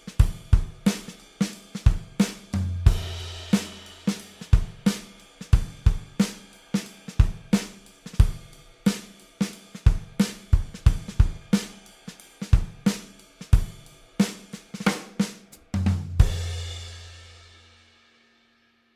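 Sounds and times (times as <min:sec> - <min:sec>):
drum-kit groove: 0:00.0 - 0:17.8.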